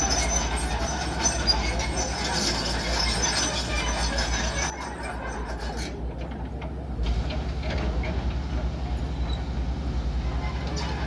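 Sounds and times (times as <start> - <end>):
excavator tracks squealing and clanking: 0.0 - 11.0.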